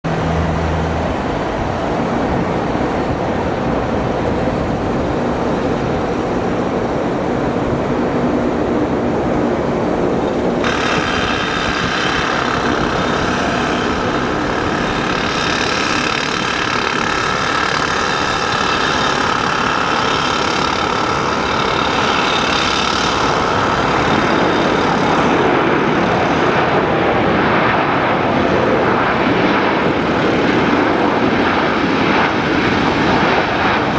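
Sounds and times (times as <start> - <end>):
high jet engine whine: 0.0 - 33.9
jet engine rumble: 0.0 - 33.9.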